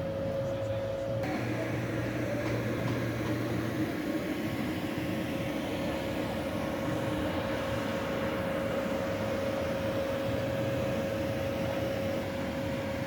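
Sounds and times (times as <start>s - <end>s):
low hum: 0.0s - 13.0s
mechanical drone: 0.0s - 13.0s.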